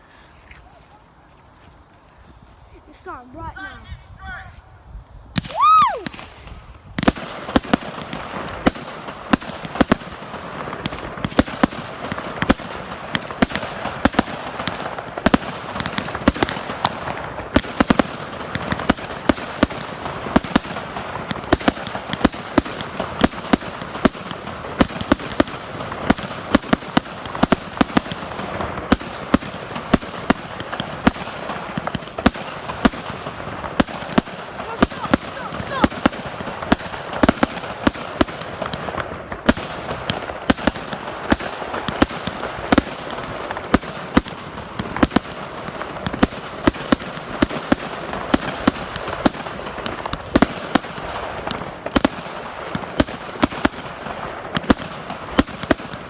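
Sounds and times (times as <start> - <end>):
firework reports: 2.7 - 56.0
firework crackling: 5.3 - 56.0.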